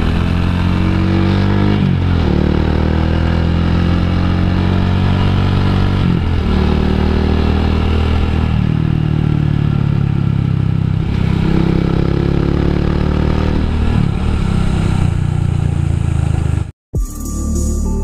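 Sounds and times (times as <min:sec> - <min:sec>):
motorcycle engine running: 0:00.0 - 0:16.7.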